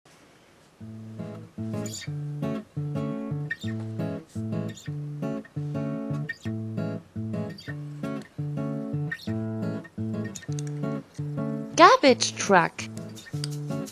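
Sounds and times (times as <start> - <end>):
acoustic guitar strumming: 0.8 - 13.9.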